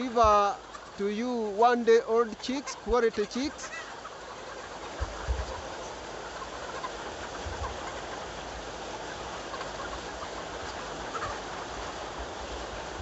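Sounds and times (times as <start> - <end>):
young chickens peeping: 0.0 - 13.0.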